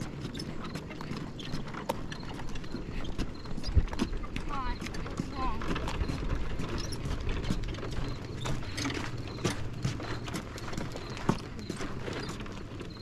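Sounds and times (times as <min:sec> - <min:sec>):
footsteps on gravel: 0:00.0 - 0:13.0
hooves on gravel: 0:00.0 - 0:13.0
wagon wheels rattling: 0:00.0 - 0:13.0.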